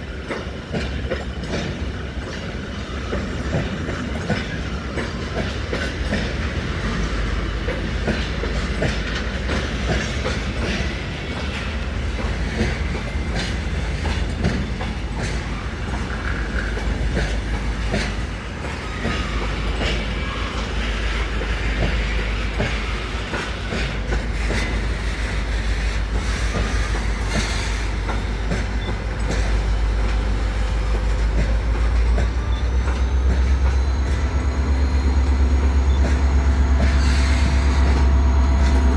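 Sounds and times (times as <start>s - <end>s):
freight train rumbling past: 0.0s - 38.9s
wheels clicking over rail joints: 0.1s - 38.9s.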